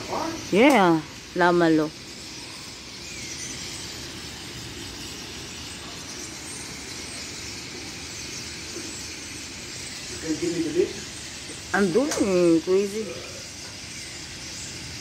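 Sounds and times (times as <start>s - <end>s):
street background noise: 0.0s - 15.0s.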